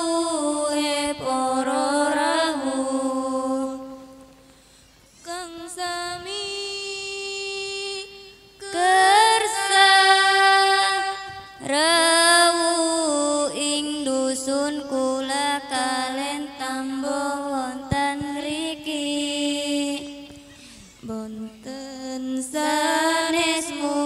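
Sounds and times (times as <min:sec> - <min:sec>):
woman singing into a microphone: 0:00.0 - 0:04.5, 0:05.2 - 0:24.0.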